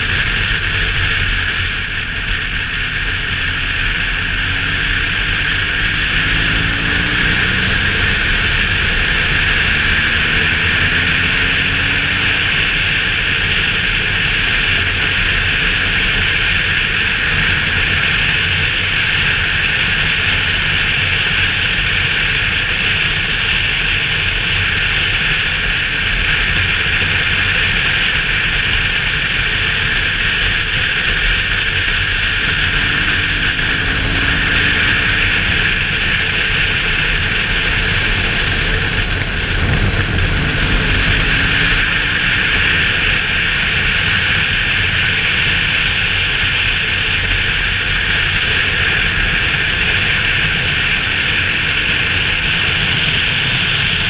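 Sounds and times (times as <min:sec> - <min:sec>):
motorcycle engine drone: 0:00.0 - 0:54.0
road noise: 0:00.0 - 0:54.0
wind rushing over microphone: 0:00.0 - 0:54.0.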